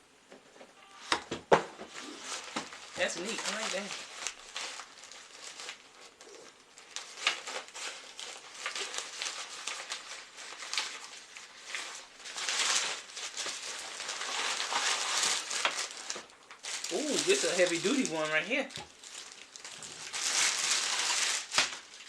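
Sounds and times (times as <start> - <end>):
packaging rustling and crinkling: 1.5 - 22.0.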